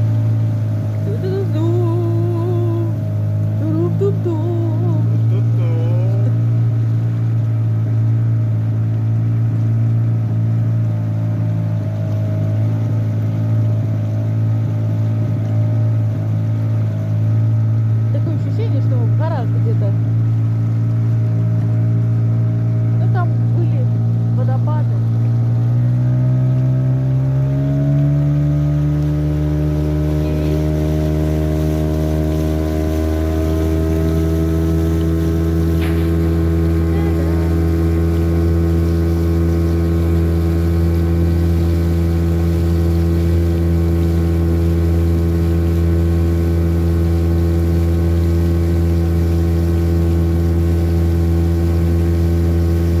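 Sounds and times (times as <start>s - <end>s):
motorboat engine running: 0.0s - 53.0s.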